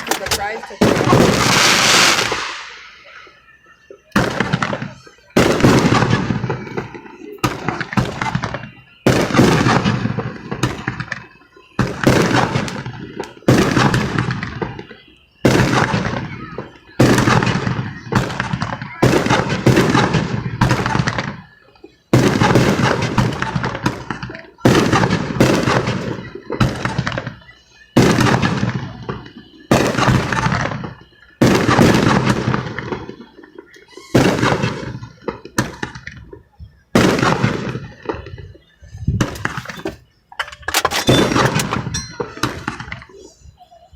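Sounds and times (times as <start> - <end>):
fireworks banging: 0.0 - 43.7.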